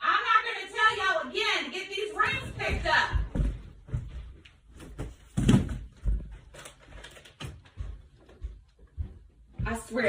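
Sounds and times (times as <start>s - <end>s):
knocks and thumps indoors: 0.8s - 10.0s.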